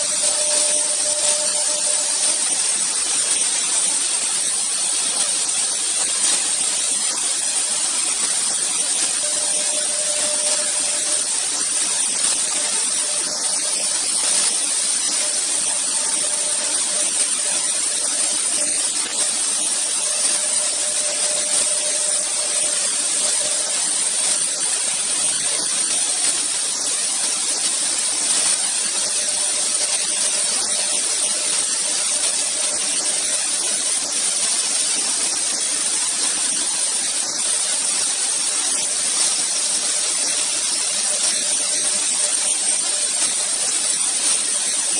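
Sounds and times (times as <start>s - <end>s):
cnc router cutting board: 0.0s - 44.9s.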